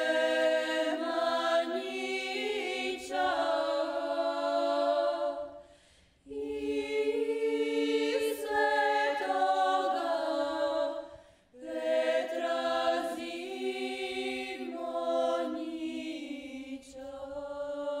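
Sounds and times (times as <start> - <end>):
vocal group singing a cappella: 0.0 - 18.0.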